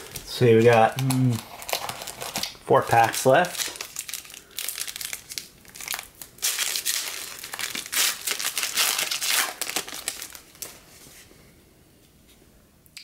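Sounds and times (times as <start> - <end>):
wrapper tearing and crinkling: 0.0 - 10.8.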